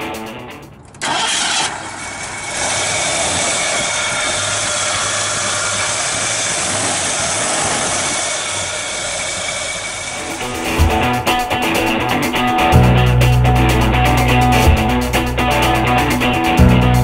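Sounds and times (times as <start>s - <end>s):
car engine idling: 0.6s - 17.0s.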